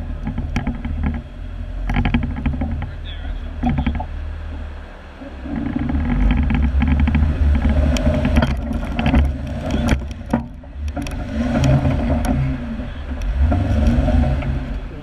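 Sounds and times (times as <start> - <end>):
sharp knocks: 0.0 - 4.6, 5.5 - 14.8
engine revving under load: 0.0 - 15.0.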